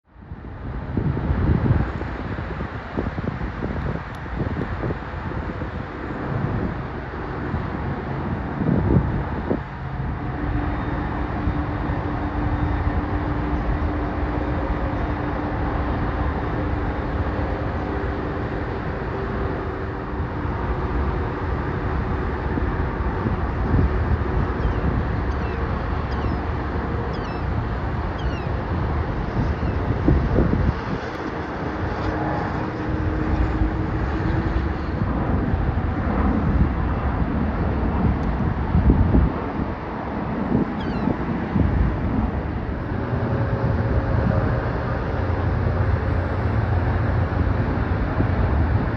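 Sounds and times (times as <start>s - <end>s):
wind buffeting microphone: 0.1s - 48.9s
vehicle engines rumbling: 0.2s - 48.9s.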